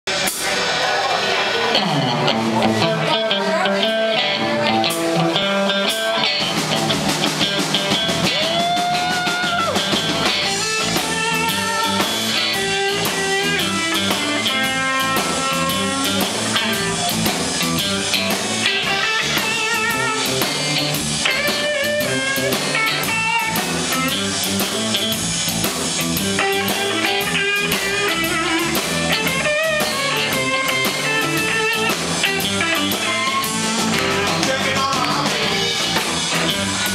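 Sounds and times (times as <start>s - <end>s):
blues-rock band playing: 0.1s - 36.9s
electric guitar bending notes: 1.2s - 36.9s.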